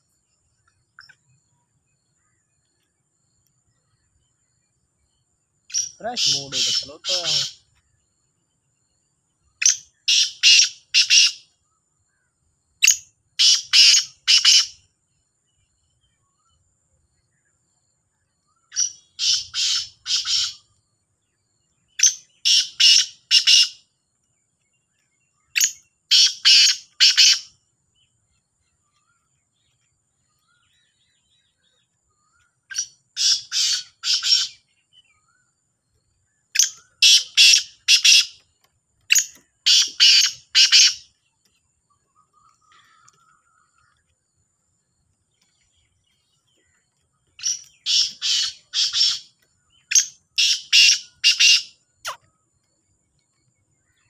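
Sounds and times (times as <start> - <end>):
birds calling harsh notes: 0.0 - 16.6, 18.3 - 54.0.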